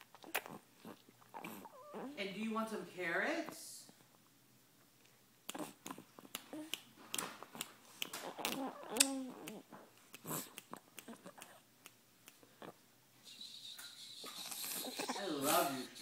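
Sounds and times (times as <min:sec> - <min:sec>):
toddler smacking lips chewing: 0:00.0 - 0:02.2, 0:05.0 - 0:16.0.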